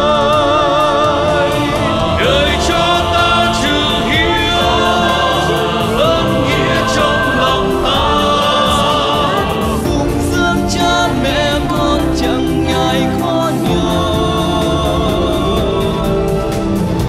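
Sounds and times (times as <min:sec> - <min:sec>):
choir singing: 0:00.0 - 0:17.0
instrumental backing music: 0:00.0 - 0:17.0
person singing: 0:00.0 - 0:17.0.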